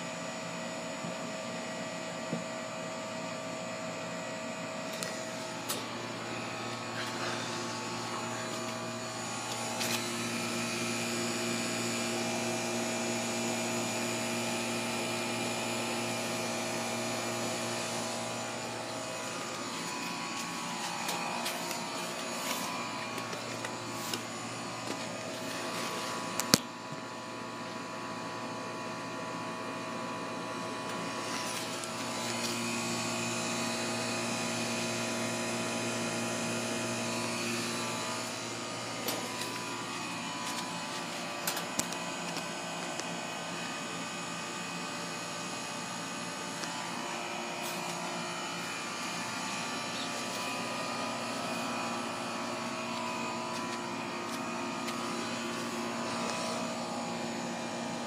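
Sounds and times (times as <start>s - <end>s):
condenser fan air noise: 0.0s - 58.0s
electric hum: 1.6s - 58.0s.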